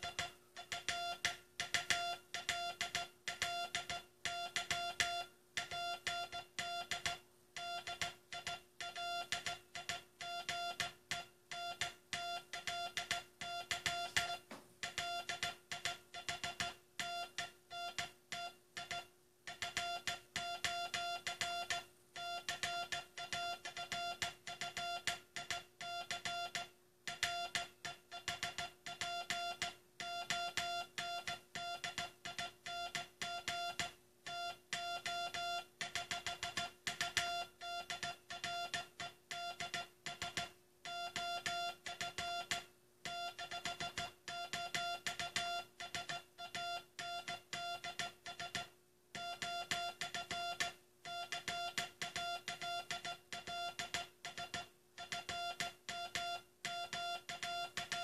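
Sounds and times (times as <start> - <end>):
faint steady hum: 0.0 - 58.0
morse code tone: 0.0 - 58.0.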